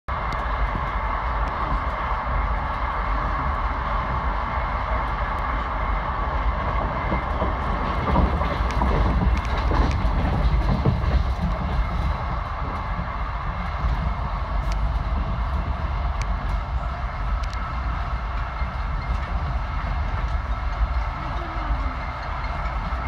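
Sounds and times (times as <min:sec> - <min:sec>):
train wheels rumbling on rails: 0:00.1 - 0:23.0.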